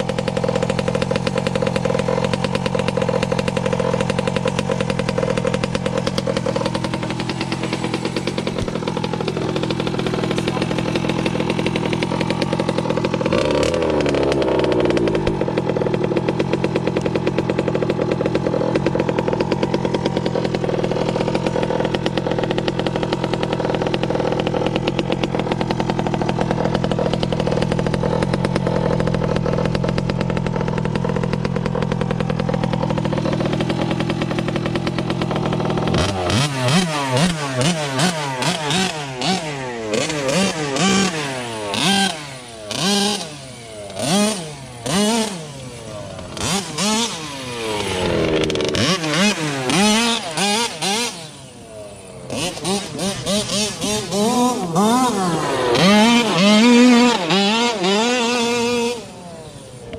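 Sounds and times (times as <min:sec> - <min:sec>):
small two-stroke engine buzzing: 0:00.0 - 0:59.9.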